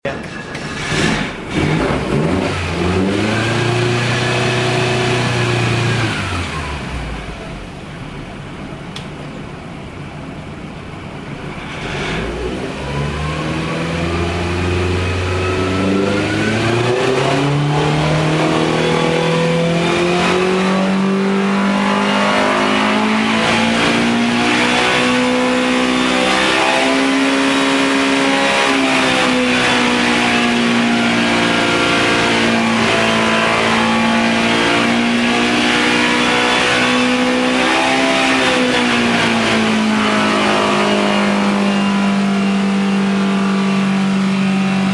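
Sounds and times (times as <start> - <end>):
racing engine revving on a dyno: 0.5 - 7.8, 11.3 - 44.9.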